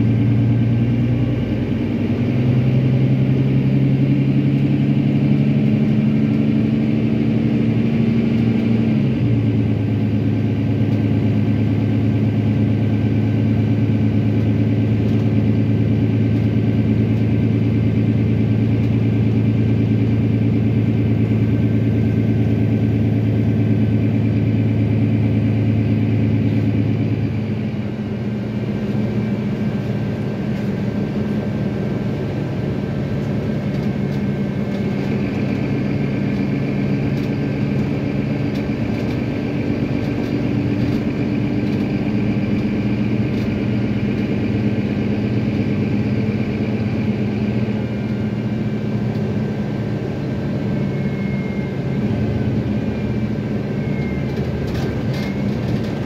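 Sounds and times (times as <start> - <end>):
bus diesel engine hum: 0.0 - 56.0.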